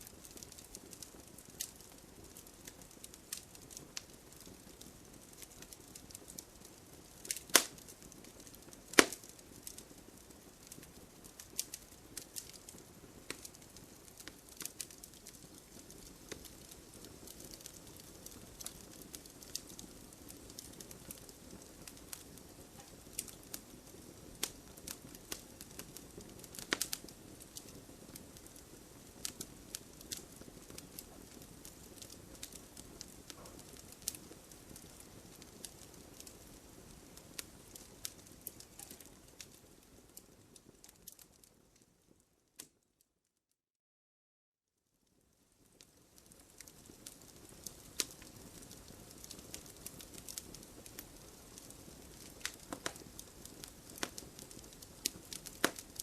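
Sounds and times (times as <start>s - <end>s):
soft steady hiss: 0.0s - 42.8s, 44.8s - 56.0s
wood fire crackling and popping: 0.0s - 42.8s, 45.1s - 56.0s.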